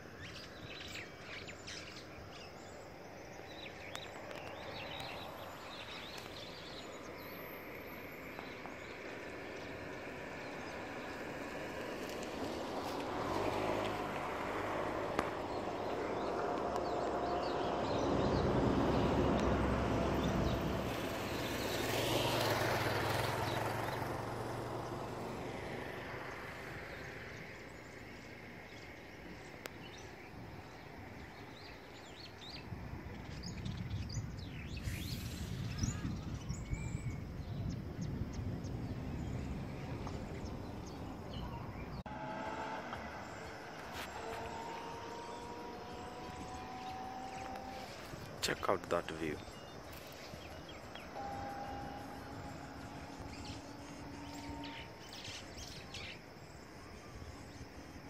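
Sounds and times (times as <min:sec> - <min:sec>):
car passing: 0:00.2 - 0:58.0.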